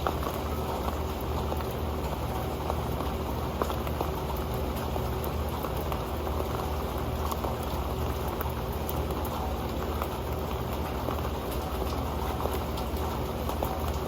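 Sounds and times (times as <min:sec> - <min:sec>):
rain pattering on metal pan: 0:00.0 - 0:14.0.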